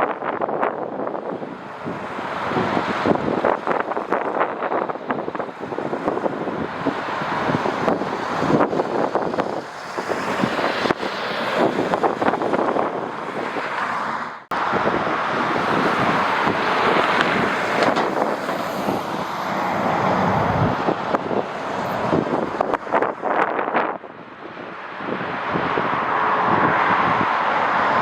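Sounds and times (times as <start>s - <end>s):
gusting wind buffeting microphone: 0.0s - 28.0s.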